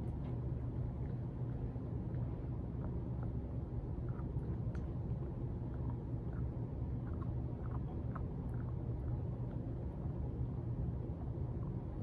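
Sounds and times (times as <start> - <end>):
puppy chewing bones: 0.0 - 12.0
steady low rumble: 0.0 - 12.0.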